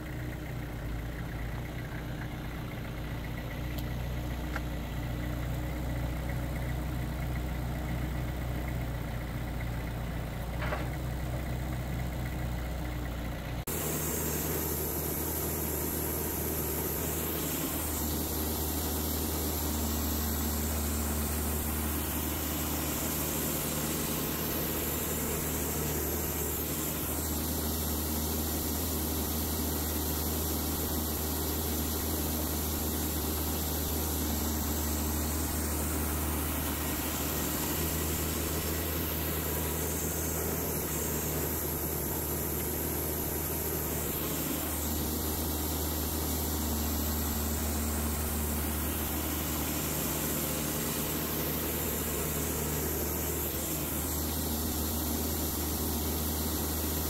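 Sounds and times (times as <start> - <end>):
engine idling: 0.0 - 57.0
noisy machine running: 0.0 - 57.0.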